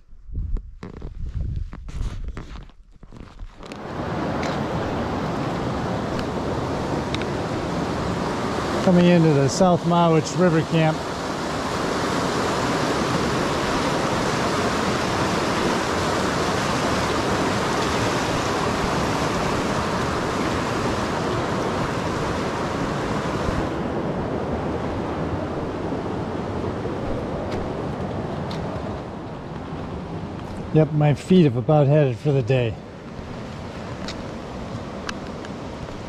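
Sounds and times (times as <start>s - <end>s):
river rushing: 3.6s - 36.0s.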